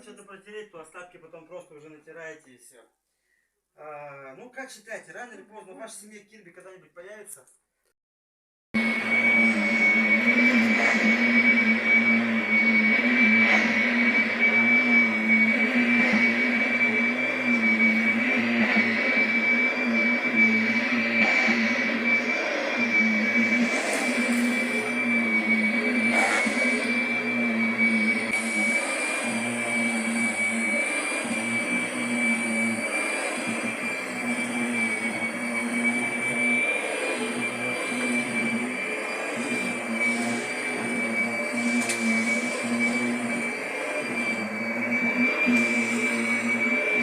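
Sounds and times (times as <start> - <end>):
vacuum cleaner running: 8.8 - 47.0.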